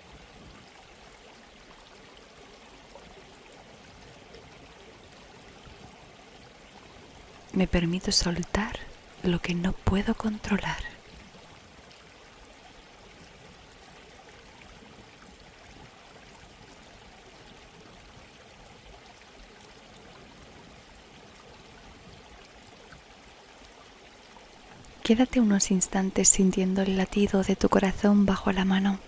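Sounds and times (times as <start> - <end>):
stream flowing: 0.0 - 29.0.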